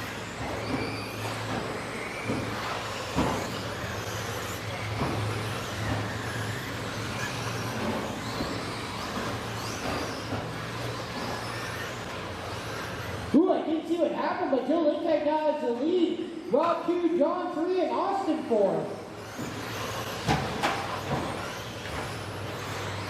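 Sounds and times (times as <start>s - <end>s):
electric motors whining: 0.0s - 15.0s, 18.0s - 23.0s.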